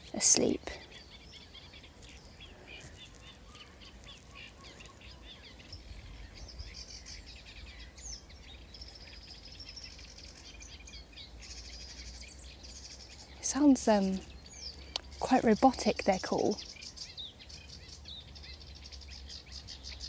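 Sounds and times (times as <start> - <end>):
reed warbler singing: 0.0 - 20.0.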